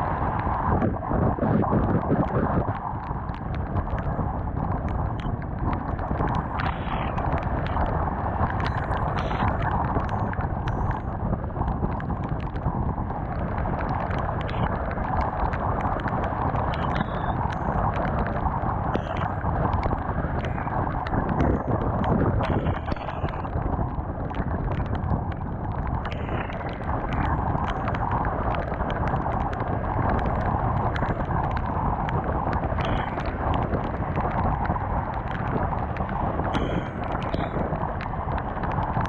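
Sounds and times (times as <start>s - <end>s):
wind noise on camera: 0.0s - 39.0s
small ticks: 2.7s - 39.0s.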